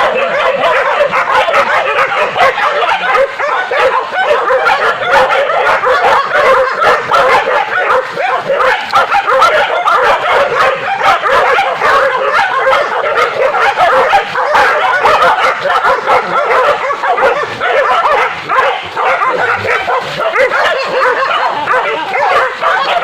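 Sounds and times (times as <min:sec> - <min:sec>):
hunting dogs barking and yelping: 0:00.0 - 0:23.0.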